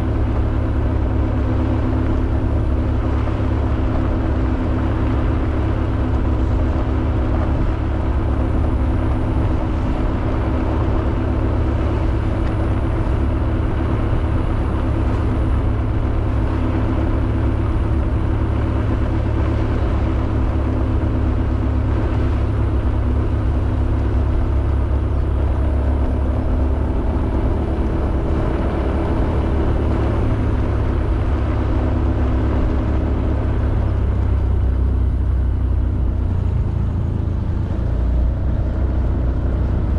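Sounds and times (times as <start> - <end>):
scooter engine cruising: 0.0 - 39.9.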